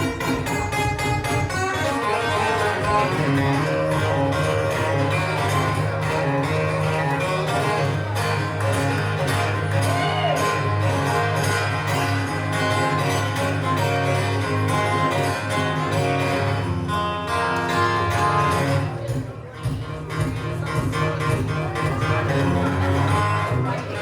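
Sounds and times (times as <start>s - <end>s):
electric guitar: 0.0s - 24.0s
live band playing: 0.0s - 24.0s.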